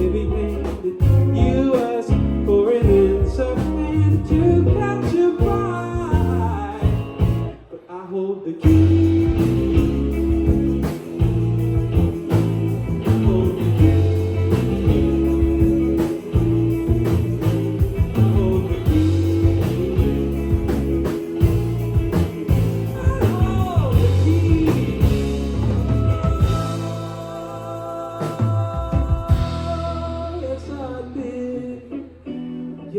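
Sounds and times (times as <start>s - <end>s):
bass guitar: 0.0s - 7.8s, 8.6s - 32.9s
drums: 0.0s - 7.8s, 8.6s - 30.8s
electric guitar: 0.0s - 7.9s, 8.6s - 32.9s
person singing: 0.0s - 32.9s.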